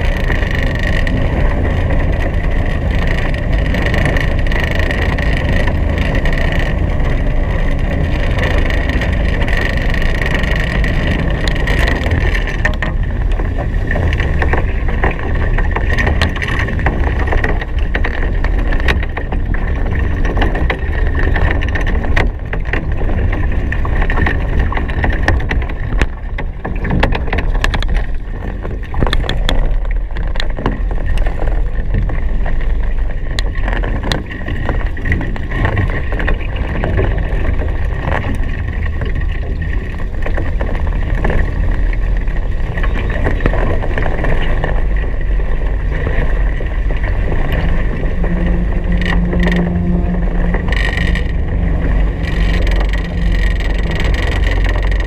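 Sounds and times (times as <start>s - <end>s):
water rushing past hulls: 0.0s - 55.0s
wind buffeting microphone: 0.0s - 55.0s.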